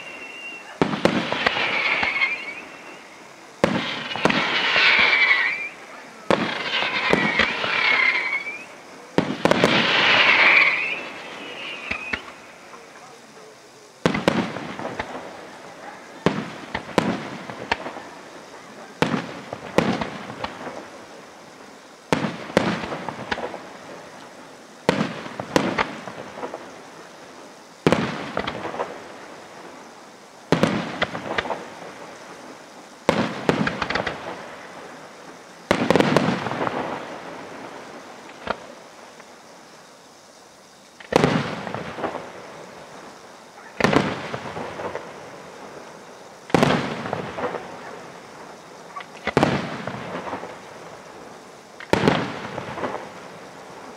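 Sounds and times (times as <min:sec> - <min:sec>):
firework shells bursting: 0:00.0 - 0:13.3, 0:14.0 - 0:15.6, 0:16.2 - 0:21.2, 0:22.1 - 0:27.0, 0:27.8 - 0:39.5, 0:40.9 - 0:53.9
crackling firework reports: 0:00.0 - 0:53.9.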